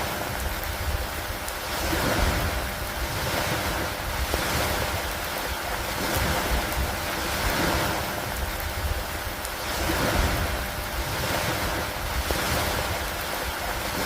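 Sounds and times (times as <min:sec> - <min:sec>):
rain on a wooden dock: 0:00.0 - 0:14.0
wind rumble on microphone: 0:00.0 - 0:14.0.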